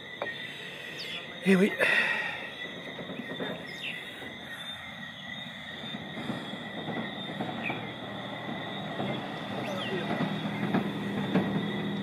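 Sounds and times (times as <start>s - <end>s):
frogs chirping: 0.0s - 12.0s
high-pitched insect ringing: 0.0s - 12.0s.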